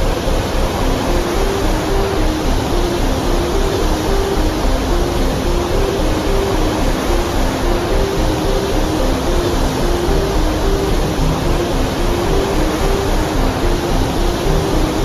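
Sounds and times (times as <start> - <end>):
rushing water: 0.0 - 15.0
soft background music: 0.0 - 15.0.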